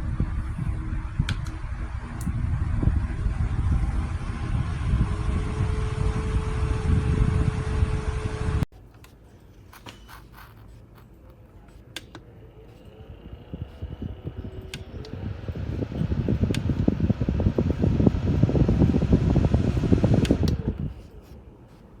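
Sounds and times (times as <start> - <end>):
desk fan running: 0.0 - 8.7, 9.5 - 22.0.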